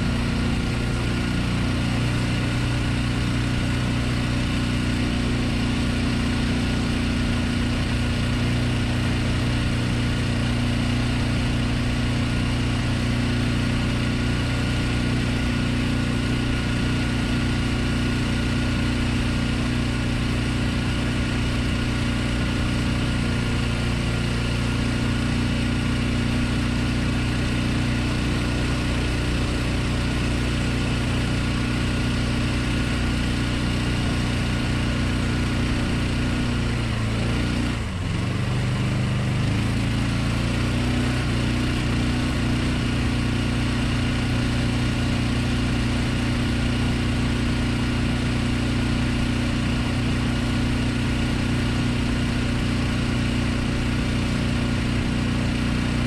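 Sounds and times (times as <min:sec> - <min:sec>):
boat motor running steadily: 0:00.0 - 0:56.0.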